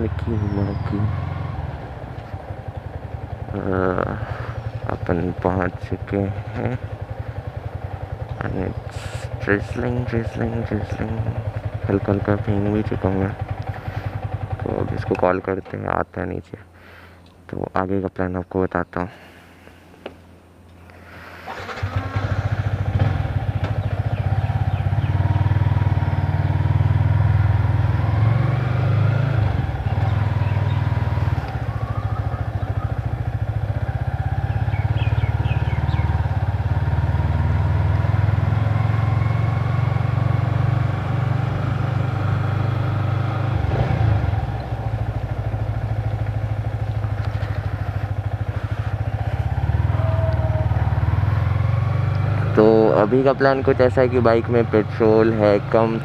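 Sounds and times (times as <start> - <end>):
motorcycle engine running: 0.0 - 16.0, 19.2 - 56.0
wind and road rumble: 0.0 - 17.8, 18.9 - 56.0.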